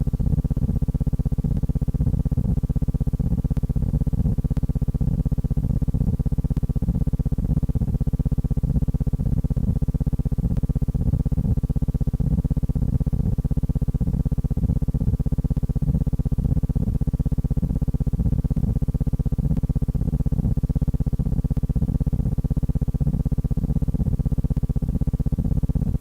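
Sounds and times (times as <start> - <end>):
low pulsing buzzing hum: 0.0 - 26.0.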